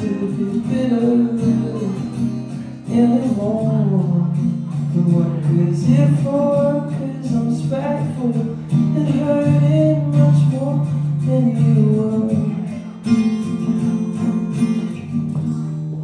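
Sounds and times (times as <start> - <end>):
person singing wordlessly: 0.0 - 14.8
acoustic guitar strumming: 0.0 - 16.0.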